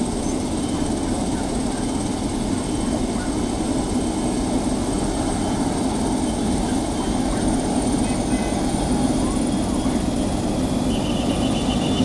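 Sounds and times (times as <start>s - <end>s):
helicopter rotor and engine: 0.0s - 12.0s
high turbine whine: 0.0s - 12.0s.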